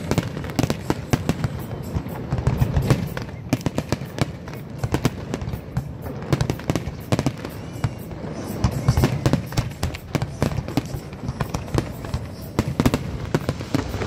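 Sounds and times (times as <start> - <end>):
fireworks bursts and crackling: 0.0 - 14.0.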